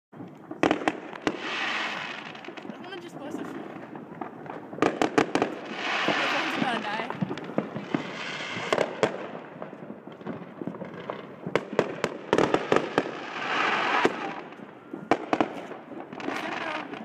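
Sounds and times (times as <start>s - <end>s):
fireworks and firecrackers banging: 0.2s - 17.0s.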